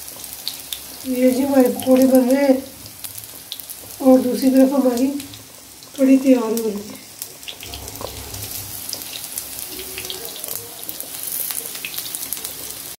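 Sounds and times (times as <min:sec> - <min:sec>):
frying in hot oil with crackles: 0:00.0 - 0:13.0.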